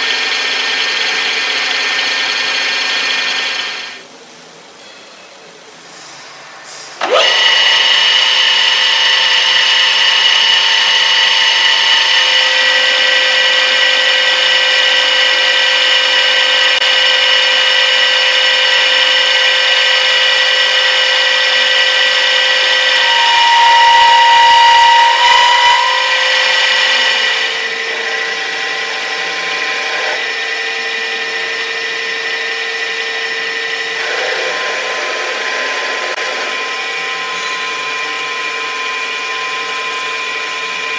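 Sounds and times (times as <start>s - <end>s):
milling machine whine: 0.0s - 4.1s, 6.7s - 40.9s.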